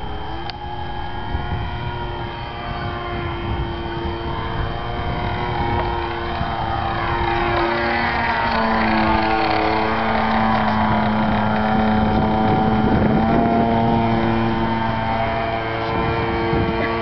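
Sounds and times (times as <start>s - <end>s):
model airplane motor running: 0.0s - 17.0s
wind buffeting microphone: 0.0s - 17.0s.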